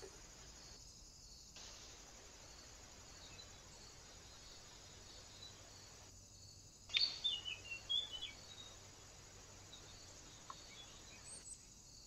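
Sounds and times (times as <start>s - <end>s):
songbird chirping: 0.0s - 12.0s
steady background hiss: 0.0s - 12.0s.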